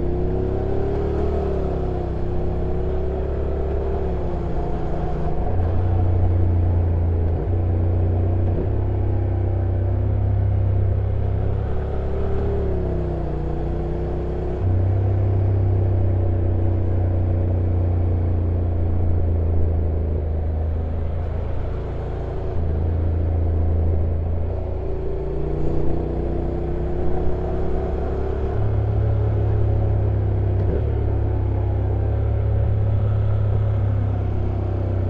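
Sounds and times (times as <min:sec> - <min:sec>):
motorcycle engine at low revs: 0:00.0 - 0:35.0.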